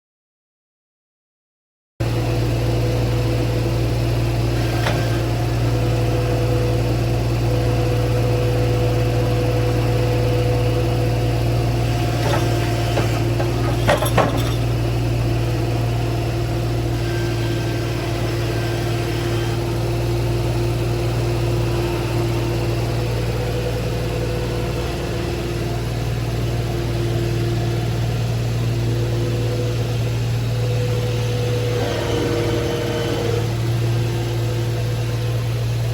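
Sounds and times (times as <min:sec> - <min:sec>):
gasoline engine running: 0:02.0 - 0:35.9.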